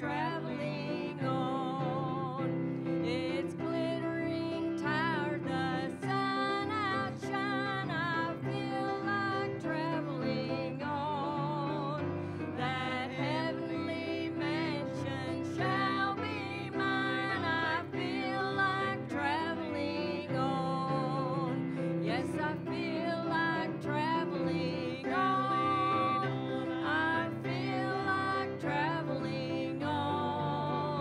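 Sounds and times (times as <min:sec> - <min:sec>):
woman singing slow song: 0:00.0 - 0:31.0.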